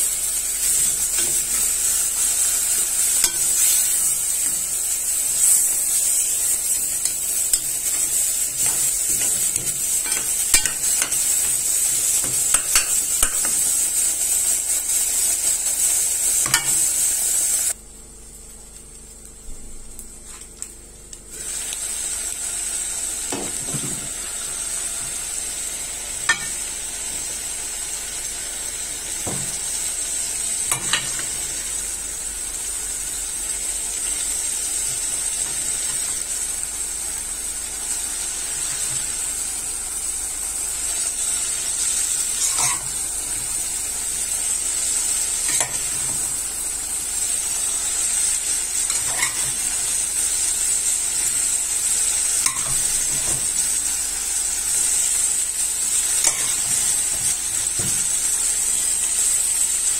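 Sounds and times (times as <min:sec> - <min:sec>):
sauce sizzling in pots: 0:00.0 - 0:59.9.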